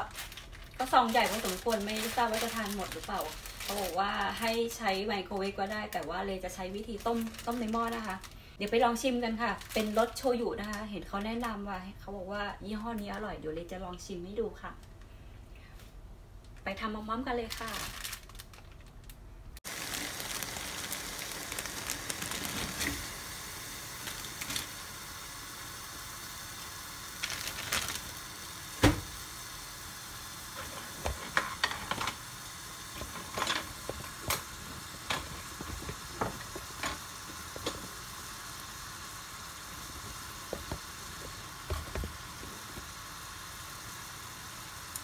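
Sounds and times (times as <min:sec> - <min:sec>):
water boiling: 0:00.0 - 0:11.8, 0:19.6 - 0:45.0.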